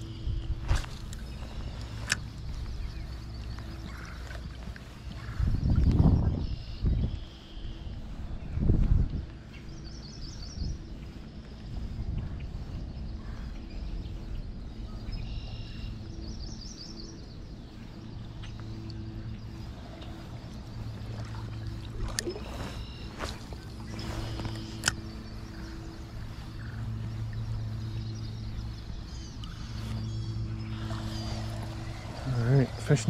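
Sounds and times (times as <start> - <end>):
low hum with overtones: 0.0 - 33.0.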